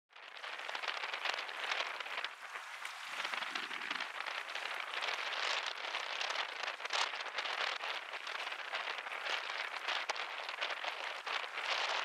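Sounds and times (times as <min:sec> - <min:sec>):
steady crackling hiss: 0:00.2 - 0:12.0.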